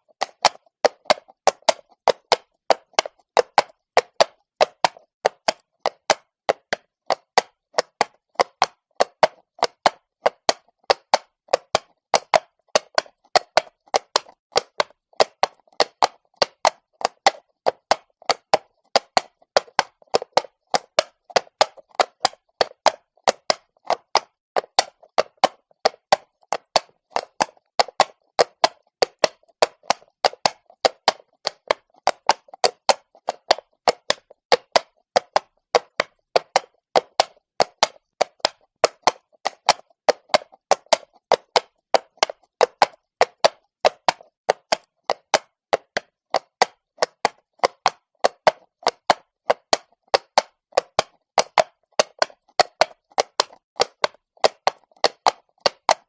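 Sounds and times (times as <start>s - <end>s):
horse hooves on cobblestones: 0.1s - 56.0s.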